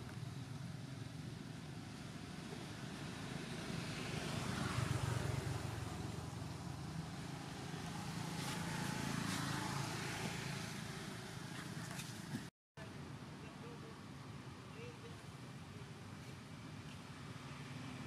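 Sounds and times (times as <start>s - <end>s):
passing road traffic hum: 0.0s - 18.0s.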